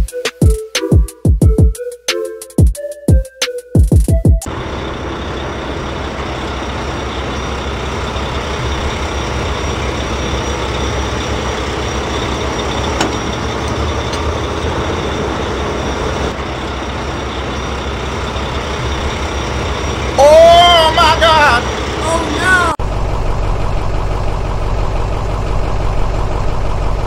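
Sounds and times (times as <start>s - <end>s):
truck engine rumbling: 4.4s - 27.0s.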